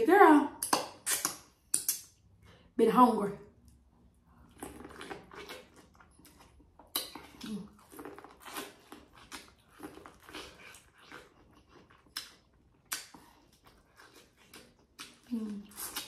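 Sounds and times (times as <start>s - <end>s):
person chewing and smacking: 0.6s - 2.4s, 3.6s - 16.0s.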